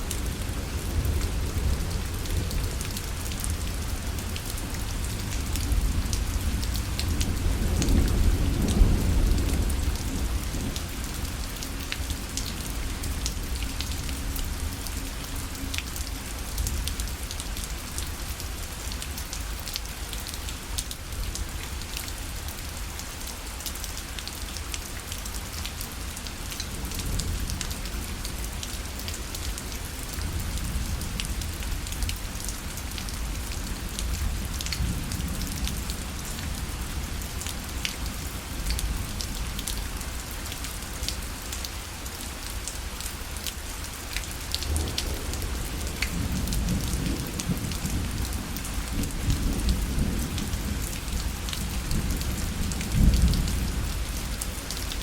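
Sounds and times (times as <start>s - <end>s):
rain drops ticking on a parasol: 0.0s - 55.0s.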